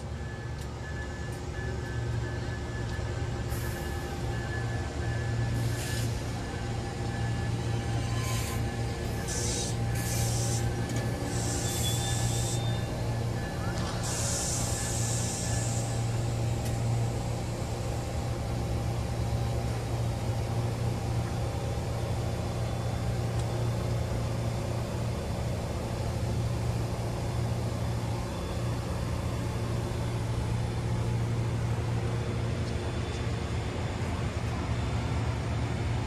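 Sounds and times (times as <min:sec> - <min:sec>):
train idling hum: 0:00.0 - 0:36.0.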